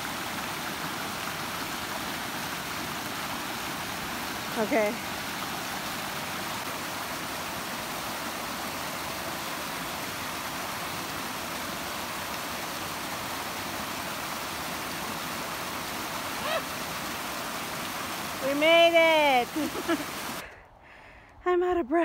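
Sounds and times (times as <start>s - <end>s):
stream rushing over rocks: 0.0s - 20.5s.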